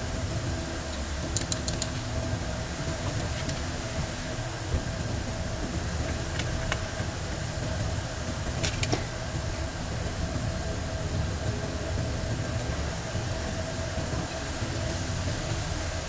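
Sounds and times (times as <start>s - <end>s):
machinery rumble and hum: 0.0s - 16.0s.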